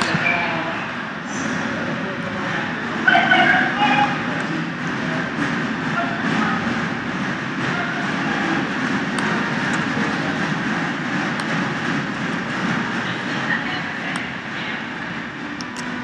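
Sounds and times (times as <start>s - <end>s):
arena crowd noise: 0.0s - 16.0s.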